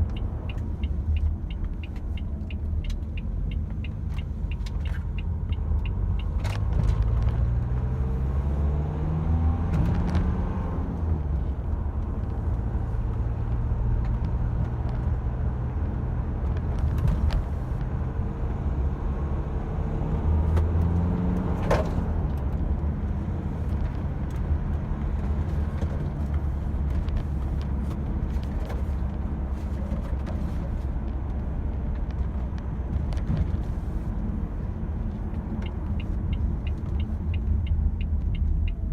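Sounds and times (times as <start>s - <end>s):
car engine running from inside cabin: 0.0s - 38.9s.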